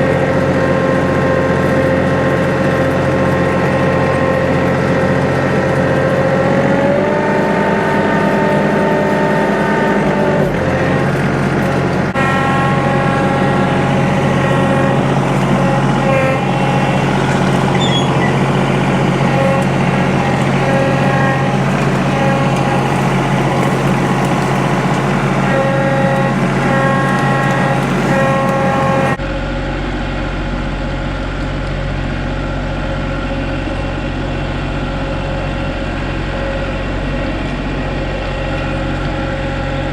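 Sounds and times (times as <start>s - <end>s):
tractor diesel engine whining: 0.0s - 39.9s.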